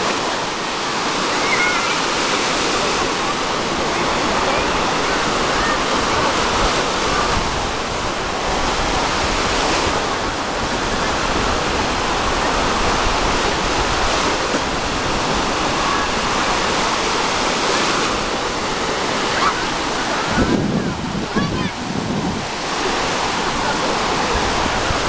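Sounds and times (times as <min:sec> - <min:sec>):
waves breaking on shore: 0:00.0 - 0:25.0.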